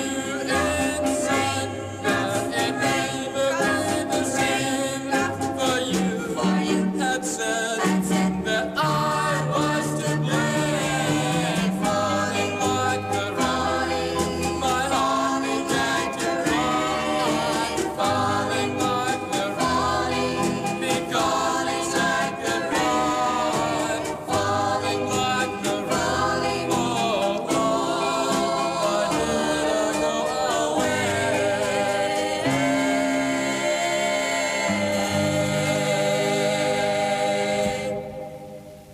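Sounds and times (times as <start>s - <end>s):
doo-wop vocal group singing: 0.0s - 38.9s.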